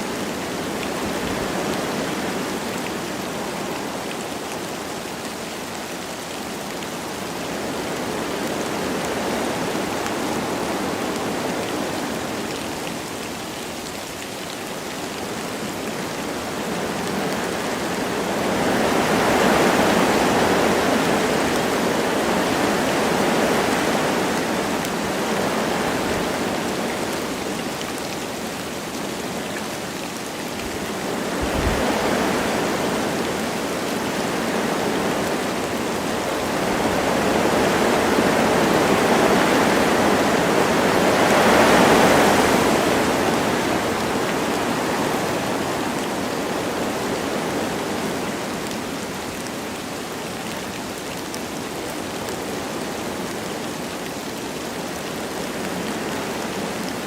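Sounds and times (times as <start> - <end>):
light rain: 0.0 - 57.0
wind through trees: 0.0 - 57.0.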